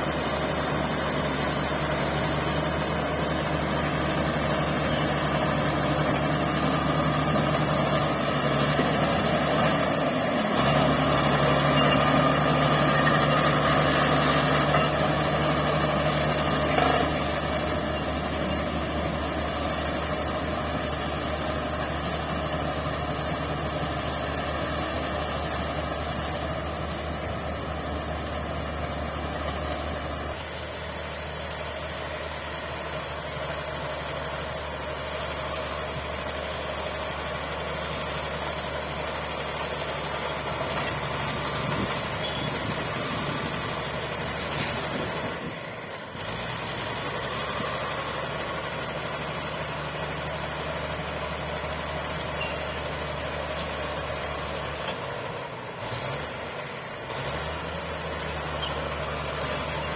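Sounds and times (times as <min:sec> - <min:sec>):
bulldozer diesel engine humming: 0:00.0 - 0:59.9.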